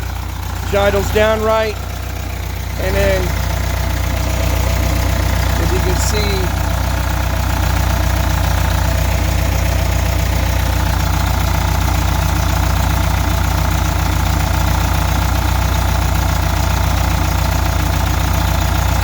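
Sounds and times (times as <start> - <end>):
car engine idling with knock: 0.0 - 19.0.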